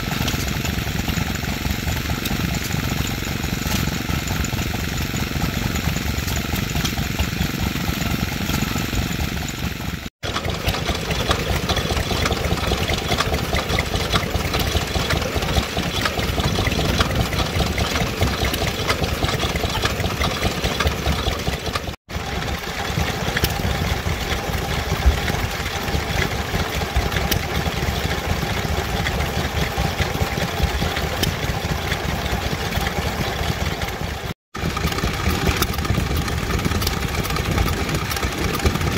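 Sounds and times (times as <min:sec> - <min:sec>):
small stationary engines running: 0:00.0 - 0:38.9.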